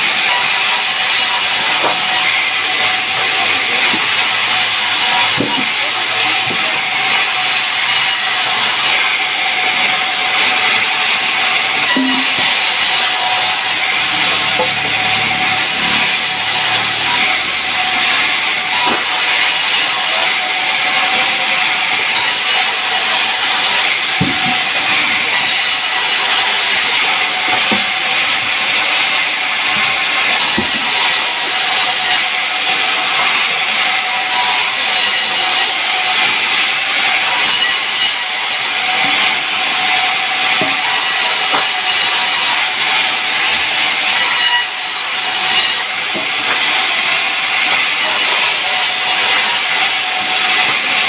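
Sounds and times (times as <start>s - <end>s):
saw cutting log: 0.0s - 51.0s.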